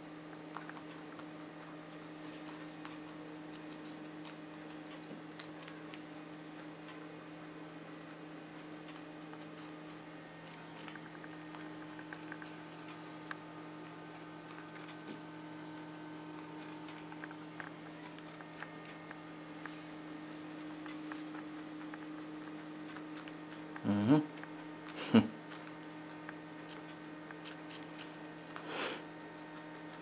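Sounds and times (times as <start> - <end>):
rabbit crunching carrot: 0.0 - 30.0
steady low hum: 0.0 - 30.0.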